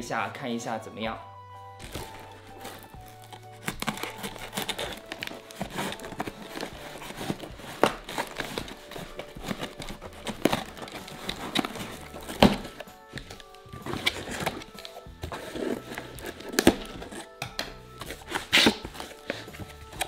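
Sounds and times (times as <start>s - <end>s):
scissors cutting packing tape: 1.8s - 20.0s
tape crinkling against cardboard: 1.8s - 20.0s.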